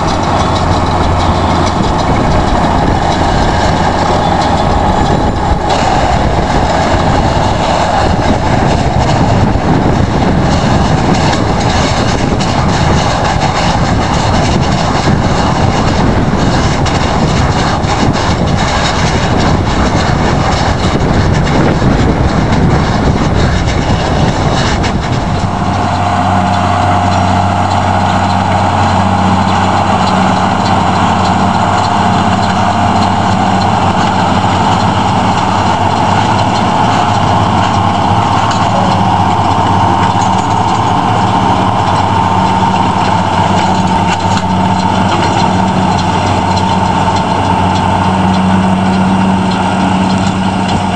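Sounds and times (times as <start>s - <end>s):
round baler wrapper running: 0.0s - 50.9s
tractor diesel engine rumbling: 0.0s - 50.9s.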